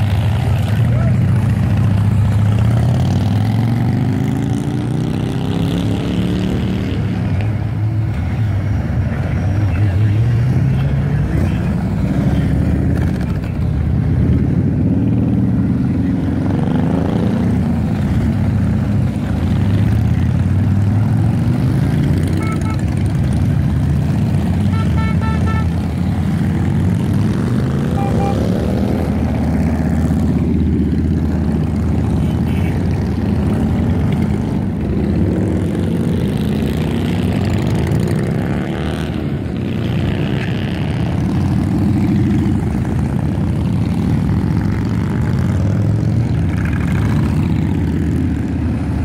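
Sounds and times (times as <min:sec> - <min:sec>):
motorcycles passing slowly: 0:00.0 - 0:49.0.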